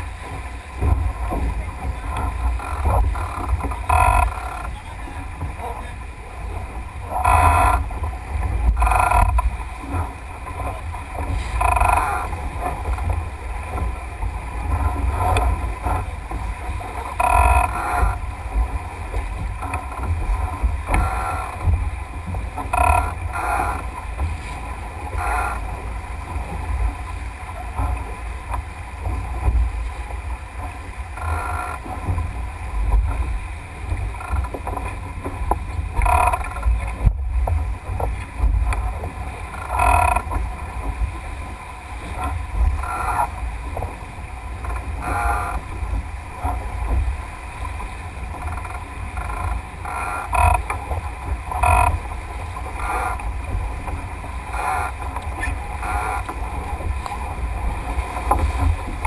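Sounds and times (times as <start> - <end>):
water rushing along hull: 0.0 - 59.0
wind buffeting microphone: 0.0 - 59.0.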